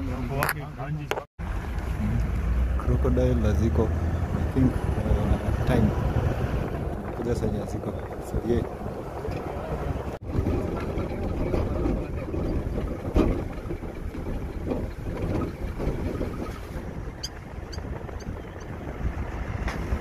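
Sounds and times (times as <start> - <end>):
low uneven rumble: 0.0 - 20.0
wind buffeting microphone: 1.6 - 20.0.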